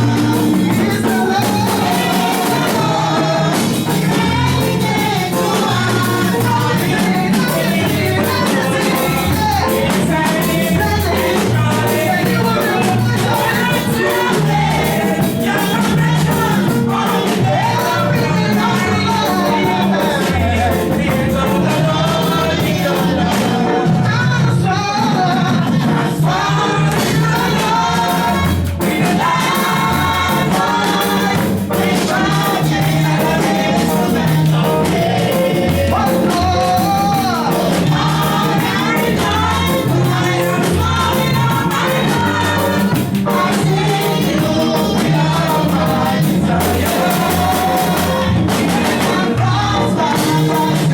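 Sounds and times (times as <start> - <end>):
gospel music with singing: 0.0 - 50.9.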